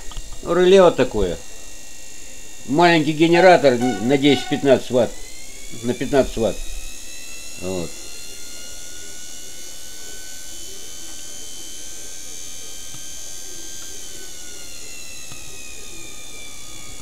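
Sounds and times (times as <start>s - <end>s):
electric motor whining: 1.2s - 17.0s.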